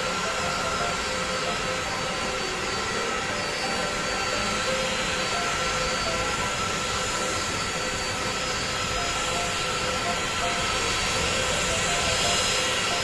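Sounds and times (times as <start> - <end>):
jet airliner engines running: 0.0 - 13.0.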